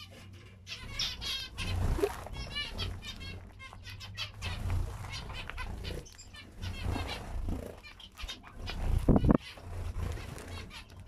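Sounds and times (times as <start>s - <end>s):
finches calling: 0.0s - 11.0s.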